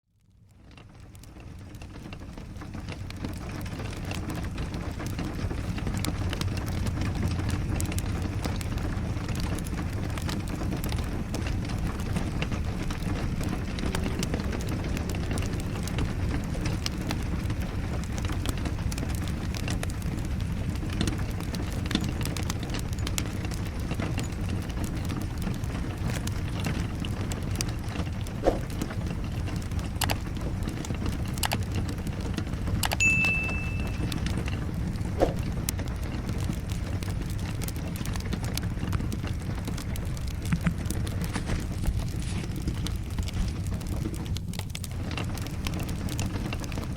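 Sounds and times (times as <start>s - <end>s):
wood fire crackling: 0.1s - 46.9s
rain: 0.2s - 46.9s.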